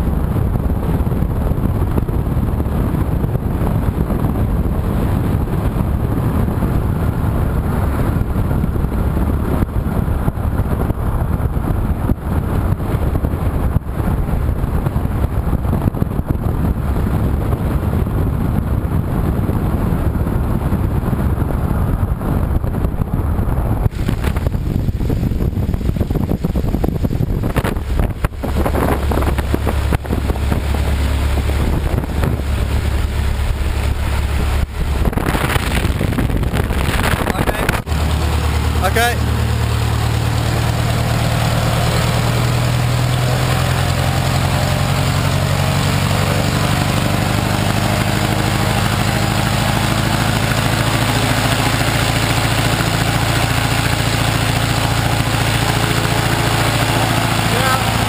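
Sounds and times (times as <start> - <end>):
propeller aircraft engine running: 0.0 - 58.0
propeller wash buffeting microphone: 0.0 - 58.0.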